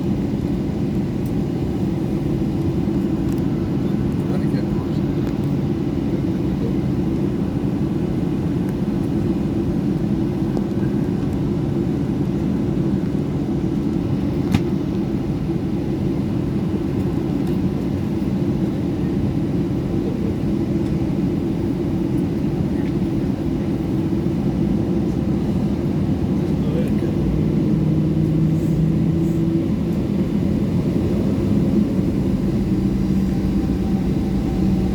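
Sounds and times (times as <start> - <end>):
airplane cabin engine rumble: 0.0 - 34.9.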